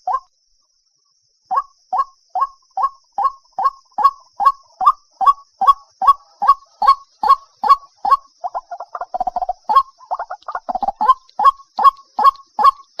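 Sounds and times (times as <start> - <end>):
waterhen calling: 1.5 - 13.0.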